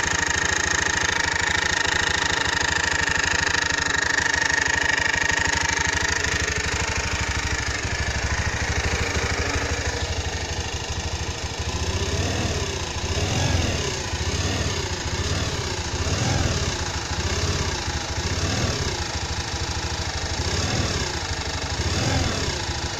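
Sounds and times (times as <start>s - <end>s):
scooter engine revving: 0.0s - 22.9s
scooter engine whining: 0.0s - 22.9s.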